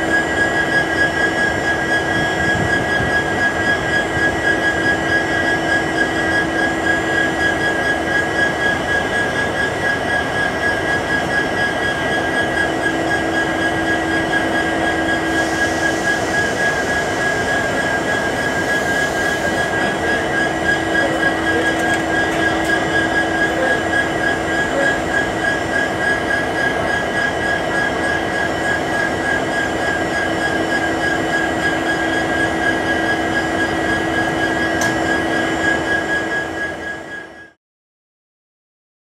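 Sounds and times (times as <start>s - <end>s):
high whine: 0.0s - 37.5s
diesel locomotive drone: 0.0s - 37.6s.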